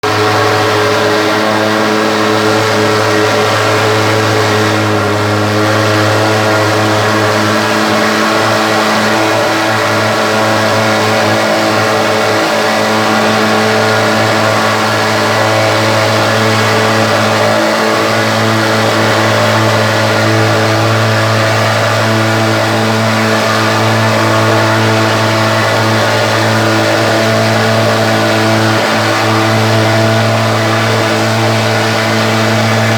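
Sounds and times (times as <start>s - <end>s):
pulse-jet engine buzzing drone: 0.0s - 32.9s.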